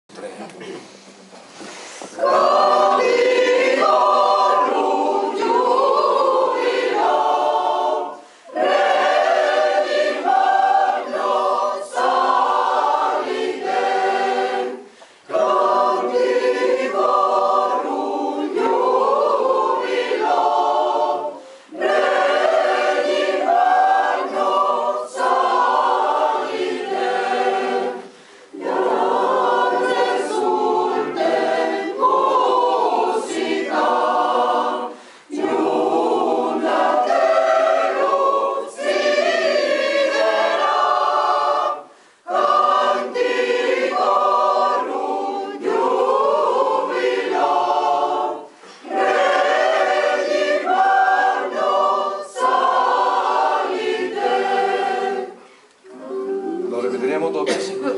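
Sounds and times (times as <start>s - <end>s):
choir singing a cappella: 1.5s - 57.9s.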